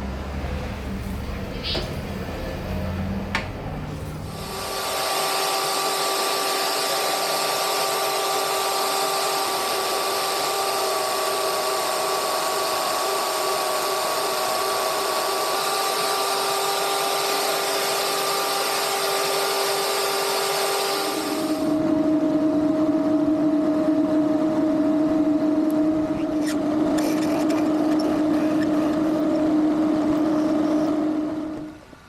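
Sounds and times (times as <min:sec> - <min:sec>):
power tool whining: 0:04.3 - 0:31.8.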